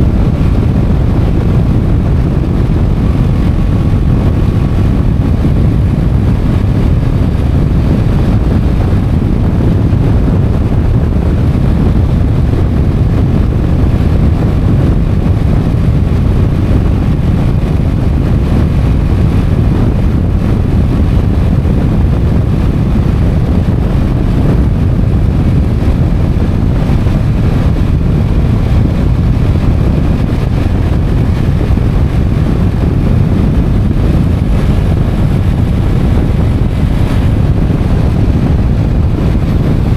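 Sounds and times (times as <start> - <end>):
motorcycle engine rumble: 0.0 - 39.9
wind on microphone: 0.0 - 39.9.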